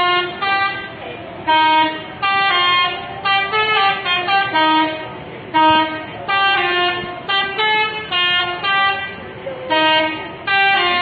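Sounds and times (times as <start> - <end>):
musical bus horn blasts: 0.0 - 11.0.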